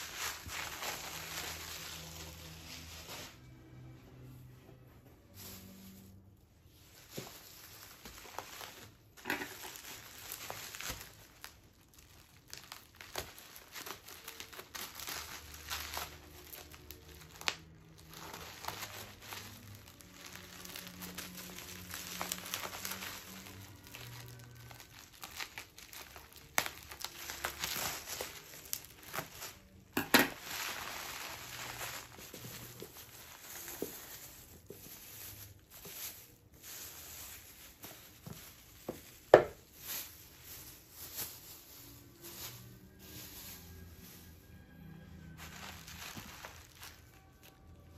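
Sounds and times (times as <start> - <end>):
bubble wrap crinkling: 0.0 - 47.9.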